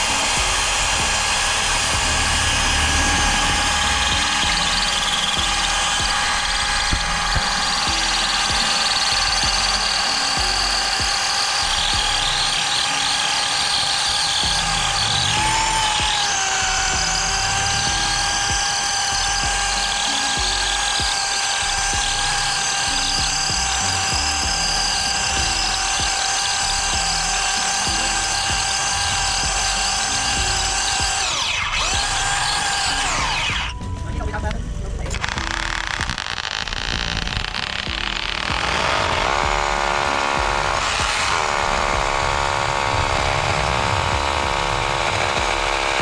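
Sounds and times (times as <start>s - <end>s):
background music: 0.0s - 46.0s
power tool motor whining: 0.0s - 46.0s.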